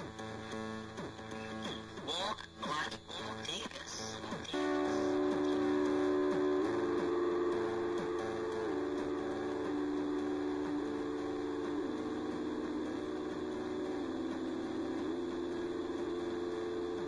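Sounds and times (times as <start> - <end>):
electronic synth drone: 0.0 - 17.0.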